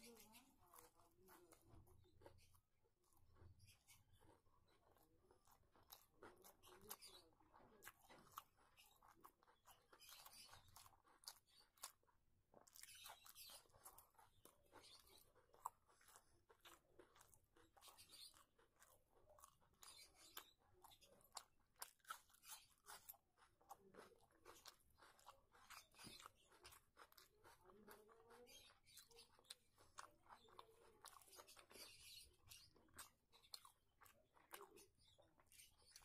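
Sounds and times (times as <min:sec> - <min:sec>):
crunchy chewing of food: 0:00.0 - 0:36.0.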